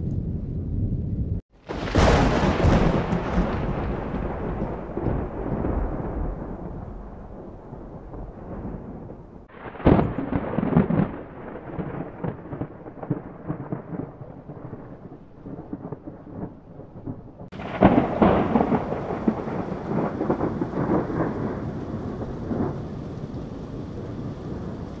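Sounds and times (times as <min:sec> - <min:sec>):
rolling thunder rumble: 0:00.0 - 0:25.0
thunderclaps: 0:00.0 - 0:25.0.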